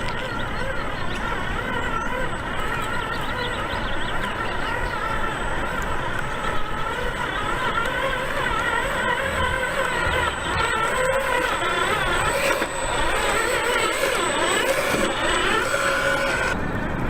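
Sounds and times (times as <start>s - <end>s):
toy truck motor whine: 0.0s - 16.6s
tyres on rough ground: 0.0s - 16.6s.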